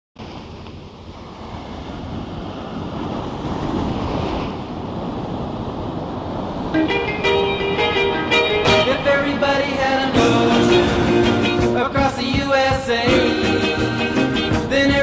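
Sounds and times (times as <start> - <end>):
wind buffeting microphone: 0.2 - 13.0
ocean surf breaking: 0.2 - 15.0.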